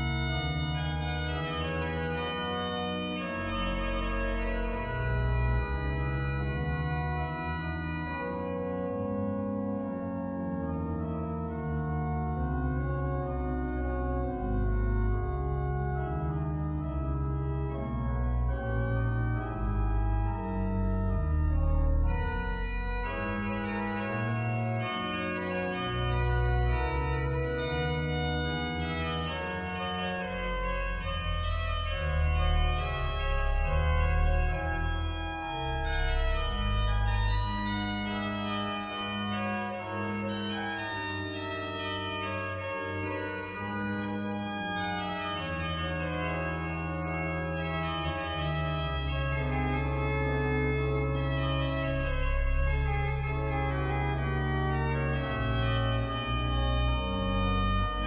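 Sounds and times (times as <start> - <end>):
pipe organ music: 0.0 - 58.0.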